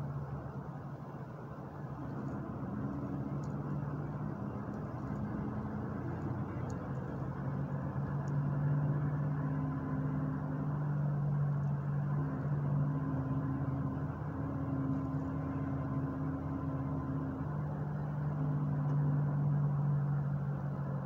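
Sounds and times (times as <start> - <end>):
bus engine and road drone: 0.0 - 21.0.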